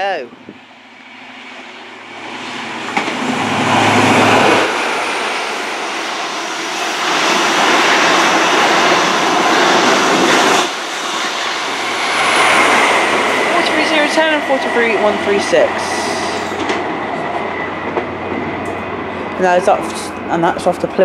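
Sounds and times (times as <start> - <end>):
train passing at speed: 0.0 - 21.0.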